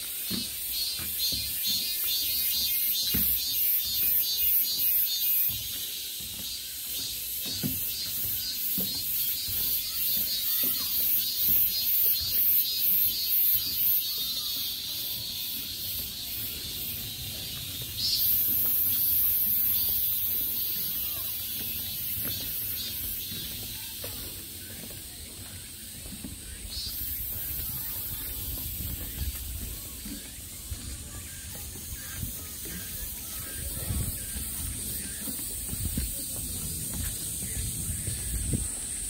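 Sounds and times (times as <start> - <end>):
insects chirring: 0.1 - 39.0.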